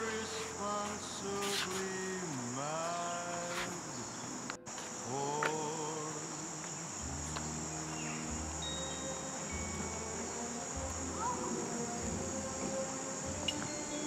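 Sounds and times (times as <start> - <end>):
crickets and insects chirping: 0.0 - 14.0
long low held notes: 0.0 - 14.0.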